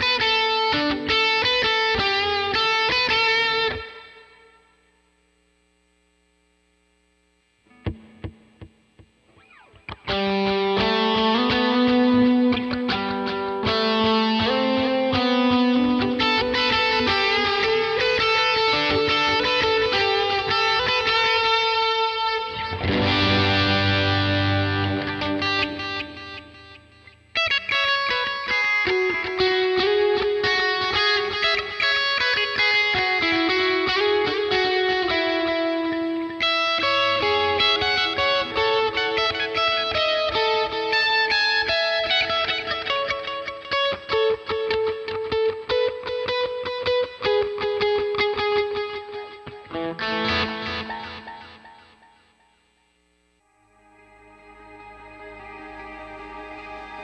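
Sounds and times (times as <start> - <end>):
overdriven electric guitar picking: 0.0 - 5.0, 7.6 - 52.8, 53.4 - 57.0
guitar chord ringing: 7.7 - 52.6, 53.4 - 57.0.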